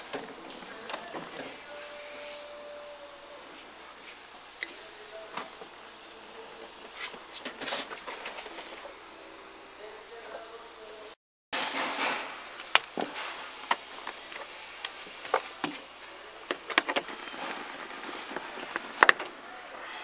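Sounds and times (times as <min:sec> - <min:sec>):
steady hiss: 0:00.0 - 0:18.8.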